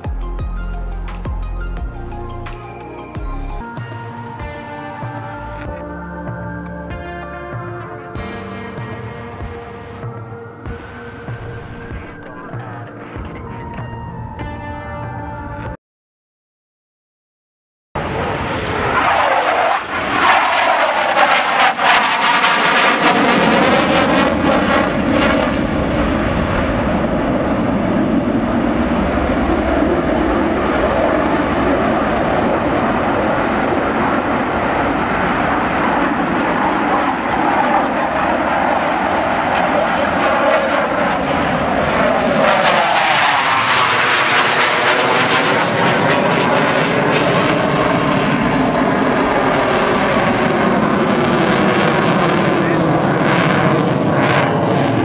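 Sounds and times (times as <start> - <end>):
airplane engine noise: 0.0 - 15.8, 18.0 - 55.0.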